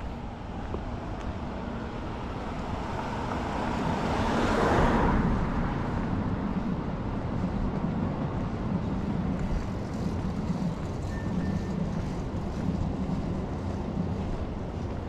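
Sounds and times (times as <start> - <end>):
street traffic: 0.0 - 15.0
wind rumble on microphone: 0.0 - 15.0.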